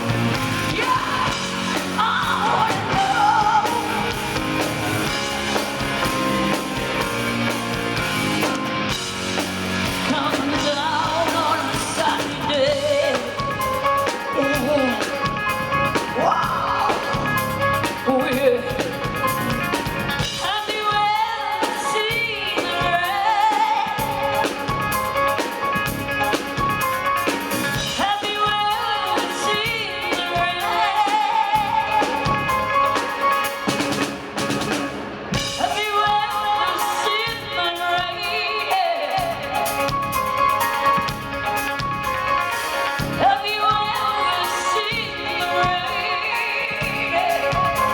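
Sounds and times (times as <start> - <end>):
woman singing: 0.0 - 6.1, 9.8 - 25.5, 27.8 - 33.4, 35.4 - 41.2, 42.5 - 47.9
live rock band playing: 0.0 - 47.9.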